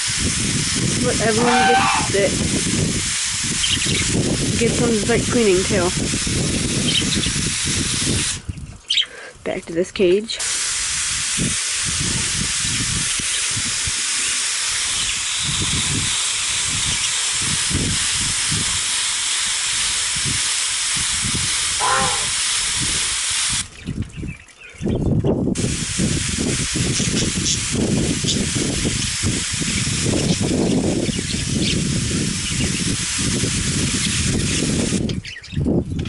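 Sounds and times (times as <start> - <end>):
mist sprayer hissing: 0.0 - 8.5, 10.3 - 23.8, 25.6 - 35.1.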